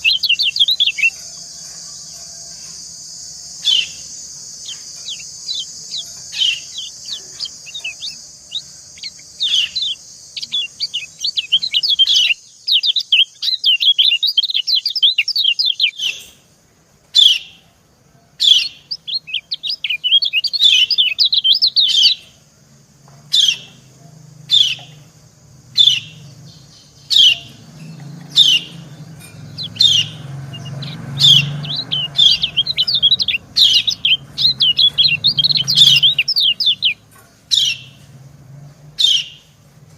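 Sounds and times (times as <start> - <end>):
bird sharp calls: 0.0 - 16.4, 18.4 - 22.4, 24.5 - 38.1, 39.0 - 39.6
bird chattering twitter: 0.0 - 16.5, 17.2 - 17.6, 18.4 - 22.5, 23.3 - 38.1, 39.0 - 39.6.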